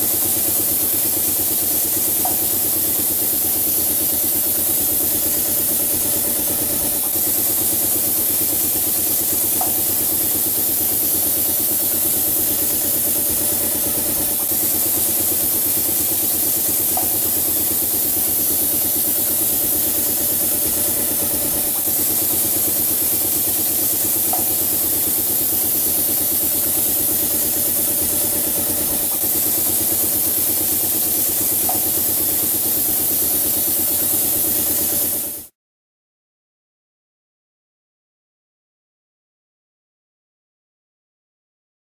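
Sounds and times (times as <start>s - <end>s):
paint spray machine hum and hiss: 0.0s - 35.5s.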